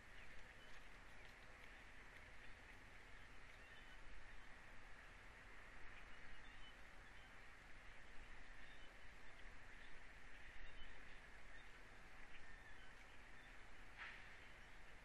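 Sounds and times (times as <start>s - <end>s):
distant small birds chirping: 0.0s - 15.0s.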